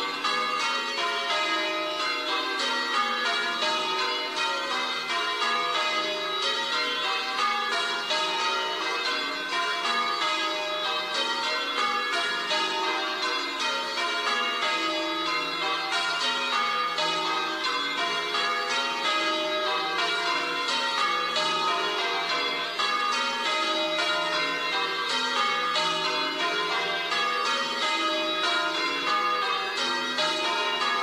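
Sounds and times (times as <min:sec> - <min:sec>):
church bells ringing a peal: 0:00.0 - 0:31.0.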